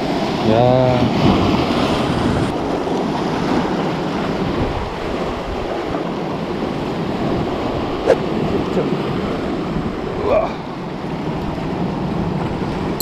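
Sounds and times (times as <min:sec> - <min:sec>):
sea waves washing on rocks: 0:00.0 - 0:13.0
wind buffeting microphone: 0:00.0 - 0:13.0.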